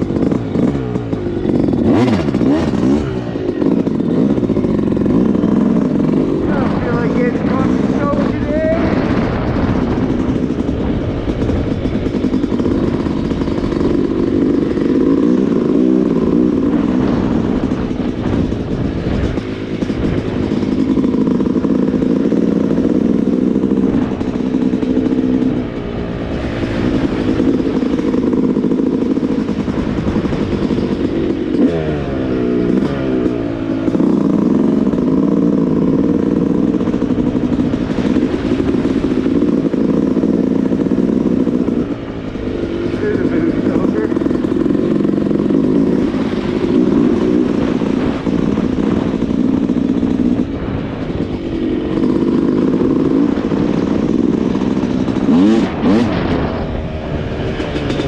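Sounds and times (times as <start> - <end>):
dirtbike engine revving: 0.0 - 58.0.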